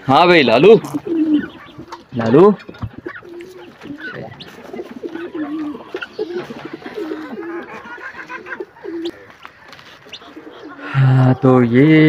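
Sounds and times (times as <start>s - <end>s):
pigeons cooing: 0.0s - 12.0s
bird chirps: 0.4s - 11.0s.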